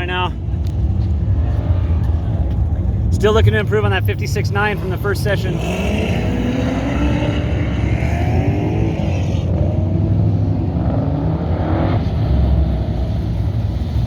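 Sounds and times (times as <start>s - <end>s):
pickup engine revving: 0.5s - 14.0s.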